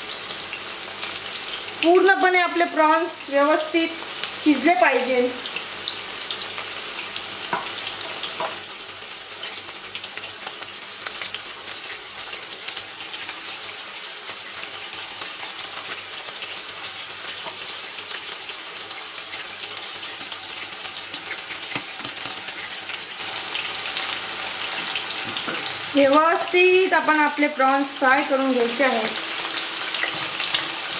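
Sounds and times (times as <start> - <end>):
prawns deep-frying in oil: 0.0 - 30.9.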